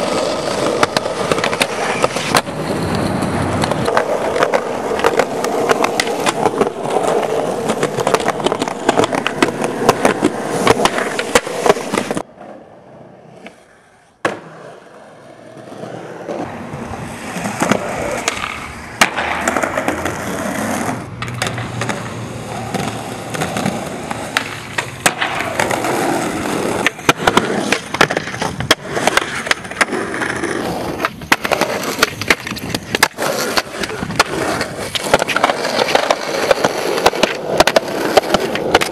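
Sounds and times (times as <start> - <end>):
skateboard clacks and landings: 0.0 - 13.6, 14.2 - 38.9
skateboard wheels rolling on concrete: 0.0 - 38.9.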